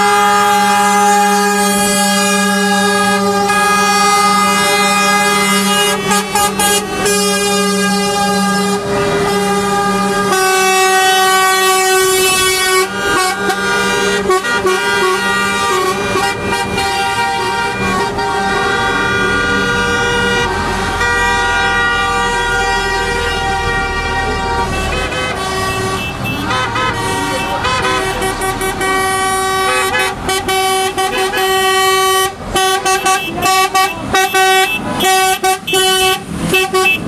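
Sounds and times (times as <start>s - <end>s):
diesel engines rumbling: 0.0s - 37.0s
truck air horns honking: 0.0s - 37.0s.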